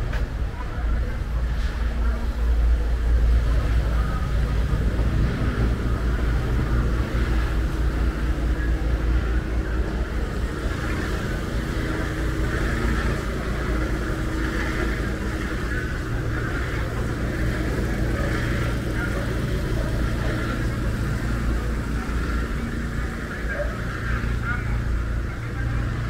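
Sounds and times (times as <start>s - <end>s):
low traffic rumble: 0.0s - 26.0s
vehicle engine running: 0.0s - 26.0s.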